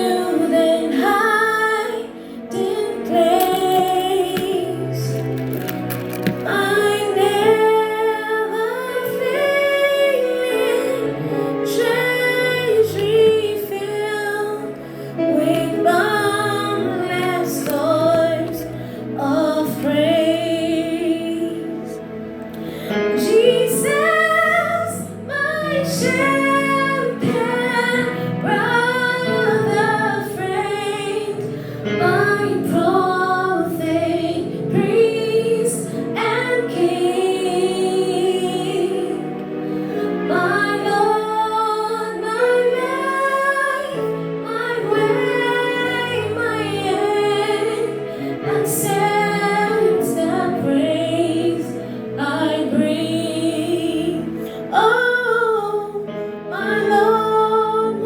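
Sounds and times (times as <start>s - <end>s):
woman singing a hymn: 0.0s - 22.0s, 23.0s - 58.0s.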